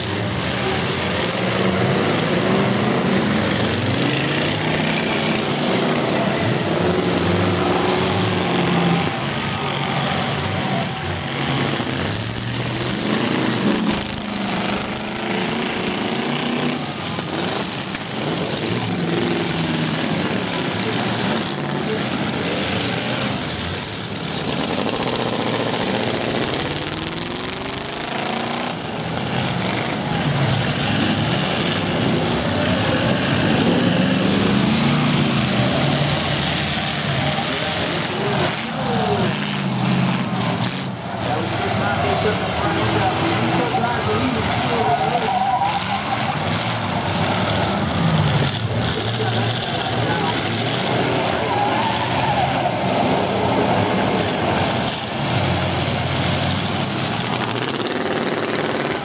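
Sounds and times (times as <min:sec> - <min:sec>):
car engines revving: 0:00.0 - 0:59.0
cars crashing: 0:00.0 - 0:59.0.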